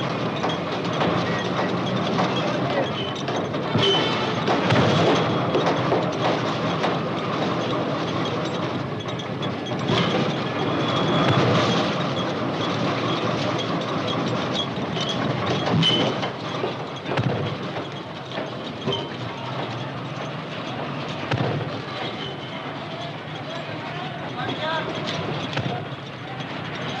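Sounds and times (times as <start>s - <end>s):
machinery clatter: 0.0s - 27.0s
metal clanks: 0.0s - 27.0s.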